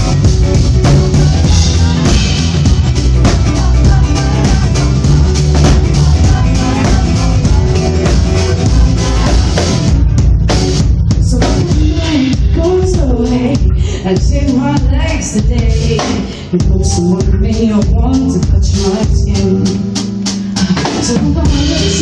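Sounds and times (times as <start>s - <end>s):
drum kit: 0.0s - 22.0s
guitar: 0.0s - 22.0s.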